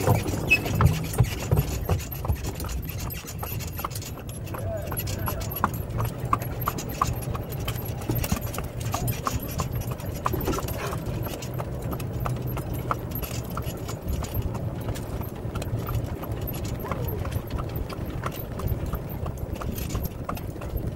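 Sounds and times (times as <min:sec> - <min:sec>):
golf cart running hum: 0:00.0 - 0:20.9
horse hooves clip-clopping: 0:00.0 - 0:20.9.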